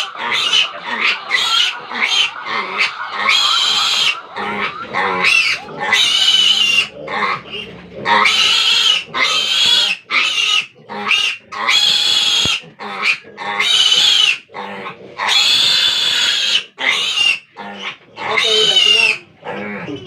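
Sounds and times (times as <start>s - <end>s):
piglet squealing: 0.0s - 20.0s.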